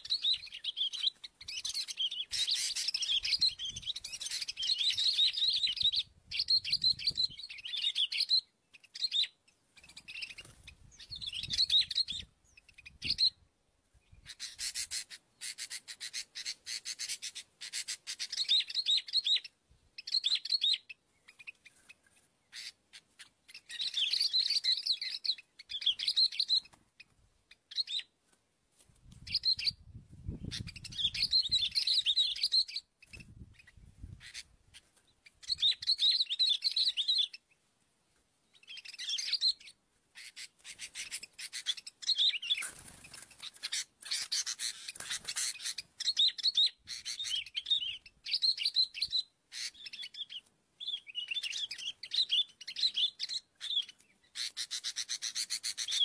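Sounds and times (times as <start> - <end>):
birds chirping: 0.0 - 28.2, 29.2 - 37.7, 38.4 - 56.0.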